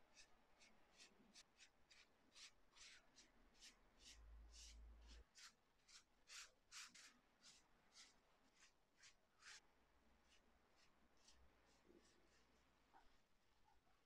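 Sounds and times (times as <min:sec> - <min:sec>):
pastry brush swishing on dough: 0:00.1 - 0:13.1.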